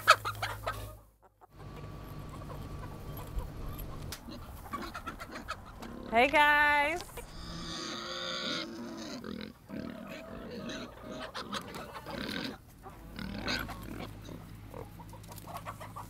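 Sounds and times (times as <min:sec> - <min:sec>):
hens calling: 0:00.0 - 0:16.0
pigs grunting: 0:01.6 - 0:06.2, 0:07.2 - 0:16.0.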